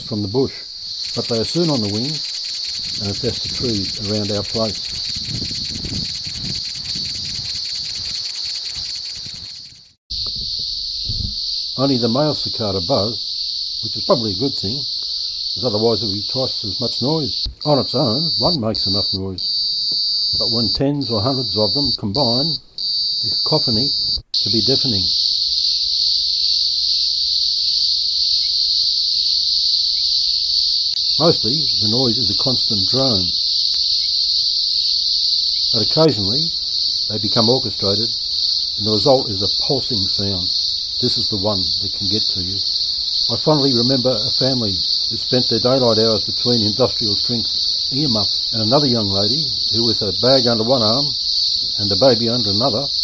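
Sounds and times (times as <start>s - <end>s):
cicadas buzzing: 0.0s - 53.0s.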